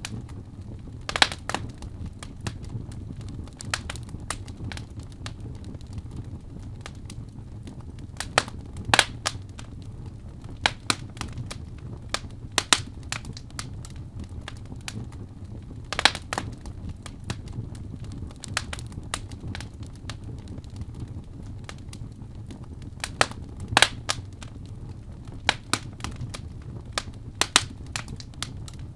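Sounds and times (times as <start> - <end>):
fire crackling and popping: 0.0 - 28.9
low rumble of flames: 0.0 - 28.9.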